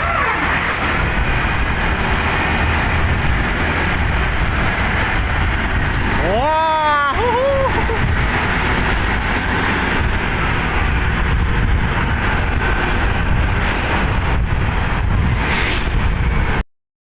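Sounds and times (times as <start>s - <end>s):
bus engine rumble: 0.0s - 16.6s
road noise: 0.0s - 16.7s.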